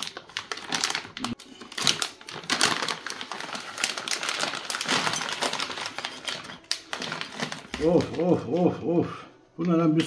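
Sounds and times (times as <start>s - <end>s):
packaging rustling: 0.0s - 8.7s.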